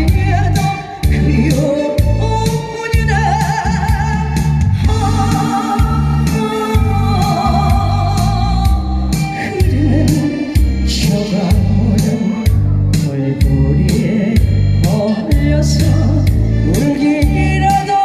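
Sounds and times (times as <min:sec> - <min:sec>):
loud backing music with beat: 0:00.0 - 0:18.0
person singing live: 0:00.0 - 0:18.0.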